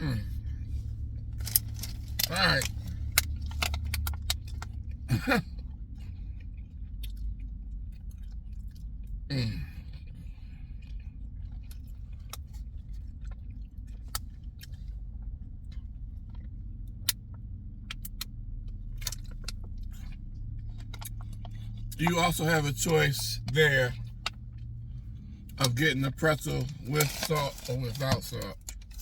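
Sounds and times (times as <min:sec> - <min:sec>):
steady low hum: 0:00.0 - 0:29.0
person chewing food: 0:00.2 - 0:25.8.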